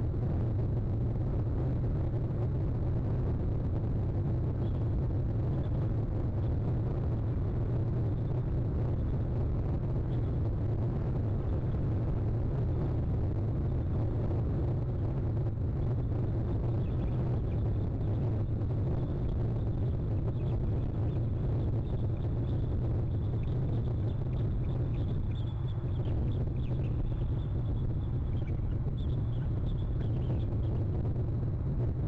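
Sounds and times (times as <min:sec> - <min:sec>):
constant hiss: 0:00.0 - 0:32.0
steady low rumble: 0:00.0 - 0:32.0.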